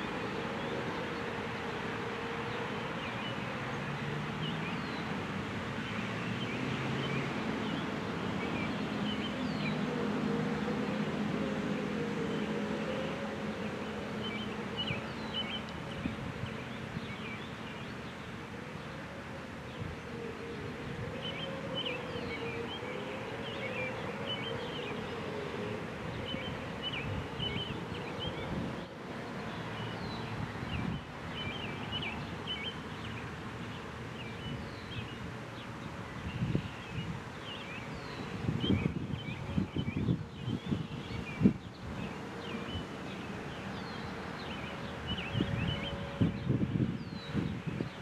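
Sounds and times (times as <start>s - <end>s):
distant warning sirens: 0.0s - 47.9s
wind rumble on microphone: 4.8s - 17.5s, 19.7s - 32.7s, 34.4s - 48.0s.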